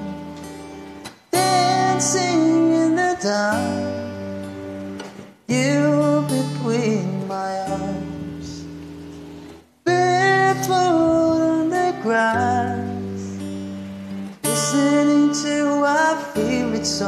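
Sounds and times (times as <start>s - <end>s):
man singing slow song: 0.0s - 0.6s, 1.3s - 8.8s, 9.8s - 13.8s, 14.4s - 17.0s.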